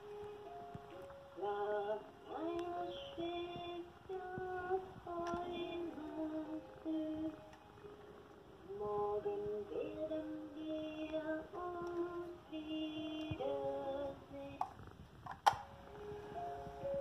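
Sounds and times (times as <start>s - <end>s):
lullaby from small speaker: 0.0s - 14.8s, 15.5s - 17.0s.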